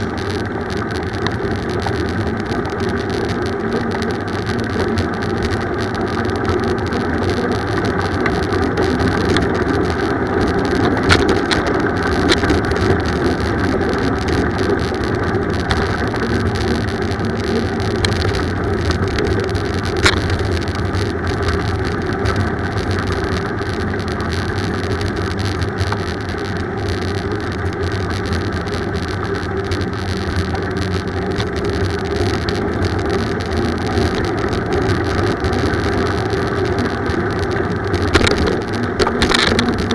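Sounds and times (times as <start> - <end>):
bicycle tyre and road rumble: 0.0 - 39.9
wind: 0.0 - 39.9.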